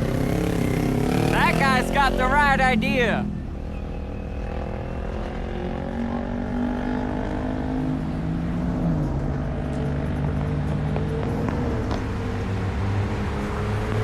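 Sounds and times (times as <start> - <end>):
car engines in slow traffic: 0.0 - 14.0.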